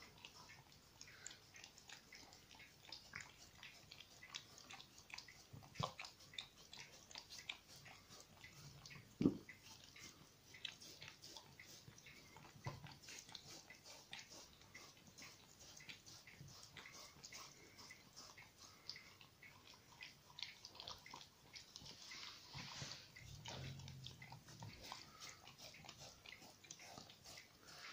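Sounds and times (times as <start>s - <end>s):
dog licking plastic tray: 0.0s - 27.9s.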